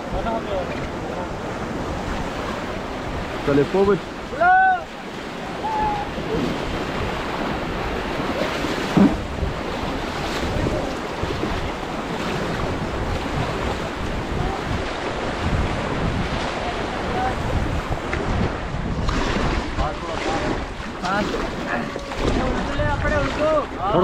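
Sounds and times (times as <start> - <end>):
river water rushing: 0.0 - 24.0
wind buffeting microphone: 0.0 - 24.0.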